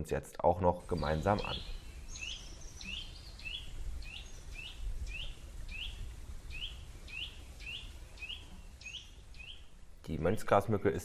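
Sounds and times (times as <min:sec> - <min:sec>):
bird whistling song: 0:00.9 - 0:09.7.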